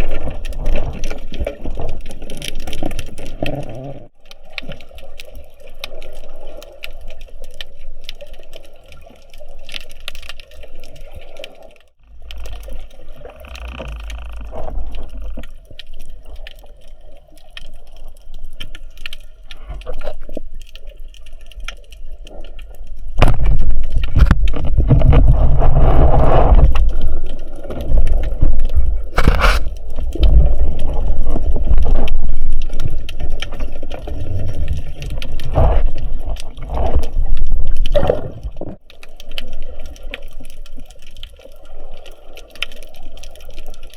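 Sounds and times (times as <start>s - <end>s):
clicks and crackles underwater: 0.0s - 43.9s
water sloshing underwater: 0.0s - 43.9s.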